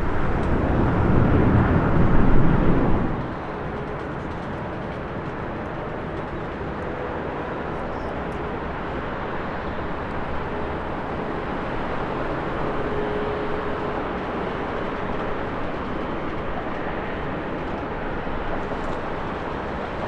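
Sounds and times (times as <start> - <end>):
distant jet engines rumbling: 0.0 - 20.0.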